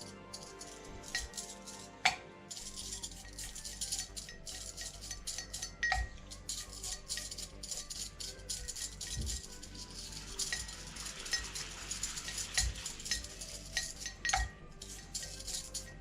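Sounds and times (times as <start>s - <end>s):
metal bearings clinking in liquid: 0.0s - 16.0s.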